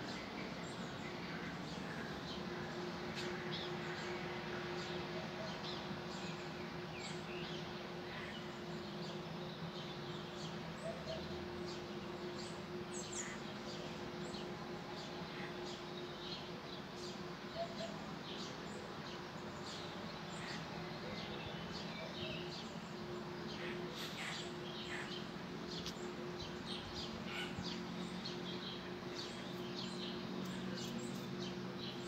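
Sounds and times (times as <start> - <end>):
low mechanical hum: 0.0 - 32.0
small birds chirping: 0.0 - 32.0.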